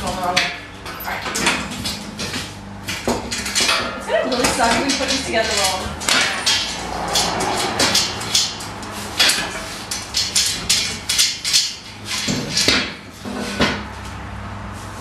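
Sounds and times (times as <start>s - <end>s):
metal chair parts clanking: 0.0s - 14.2s.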